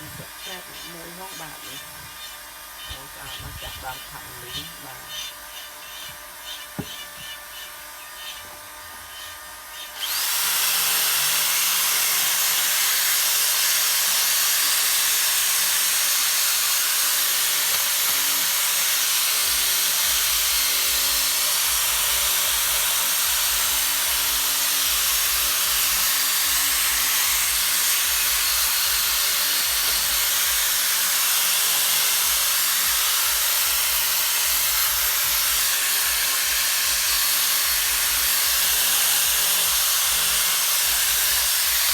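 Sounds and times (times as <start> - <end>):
power tool sanding wood: 0.0 - 41.9.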